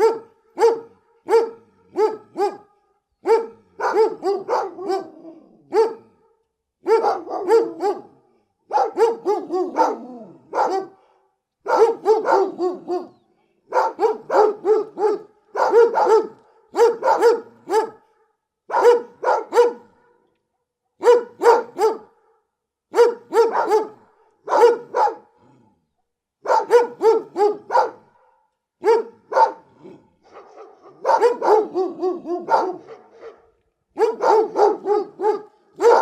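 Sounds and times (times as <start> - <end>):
big dog barking: 0.0 - 20.3, 21.0 - 25.6, 26.4 - 36.0.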